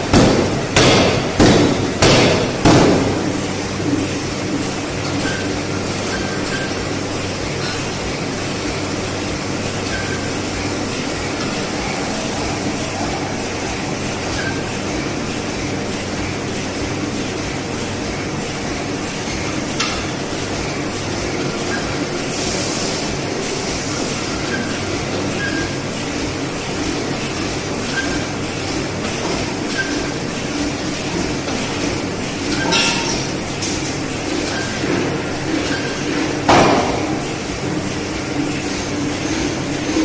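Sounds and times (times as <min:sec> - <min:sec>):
shop machinery rumble: 0:00.0 - 0:40.0.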